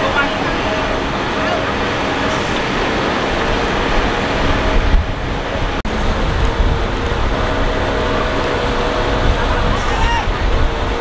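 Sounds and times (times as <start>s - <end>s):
heavy machinery engines running: 0.0s - 11.0s.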